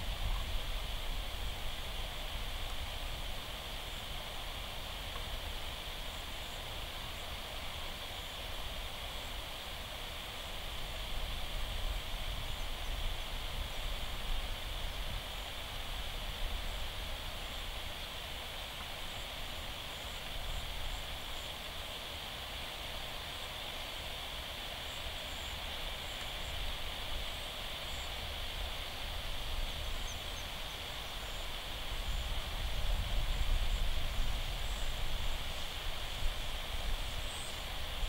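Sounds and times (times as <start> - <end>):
steady high hiss: 0.0 - 38.0.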